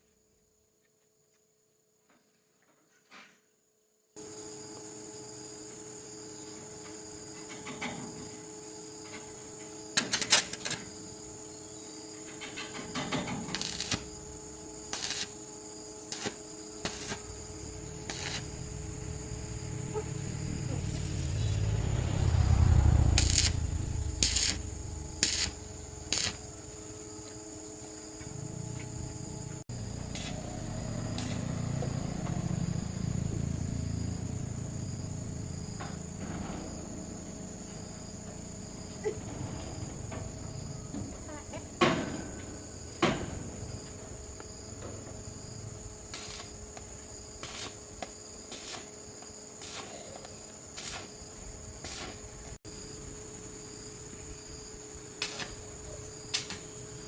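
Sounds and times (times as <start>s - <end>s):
insects trilling: 4.2s - 57.0s.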